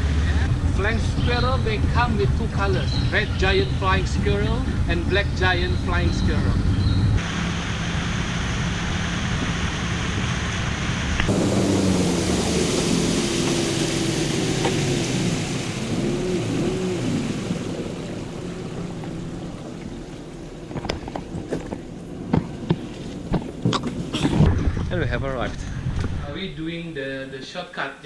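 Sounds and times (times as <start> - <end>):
boat motor running: 0.0 - 24.9
wind and water rushing: 0.0 - 26.8.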